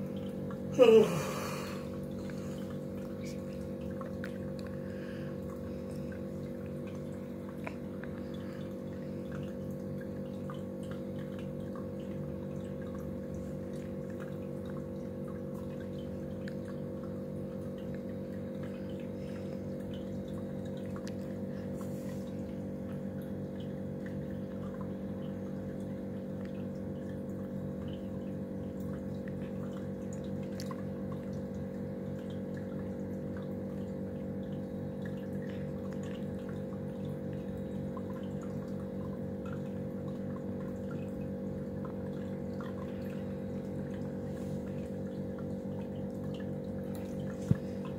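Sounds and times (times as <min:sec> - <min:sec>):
aquarium pump humming: 0:00.0 - 0:47.9
water trickling and dripping: 0:00.0 - 0:47.9.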